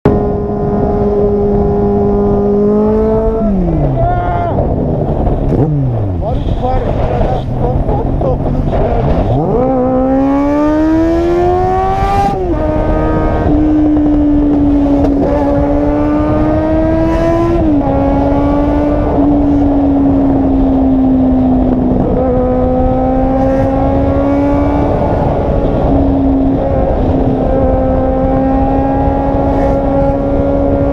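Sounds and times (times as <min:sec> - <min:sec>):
car engine under load: 0:04.6 - 0:30.9.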